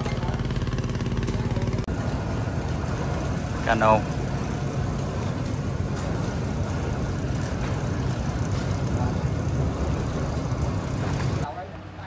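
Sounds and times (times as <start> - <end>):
electric hoist motor hum: 0.0 - 12.0.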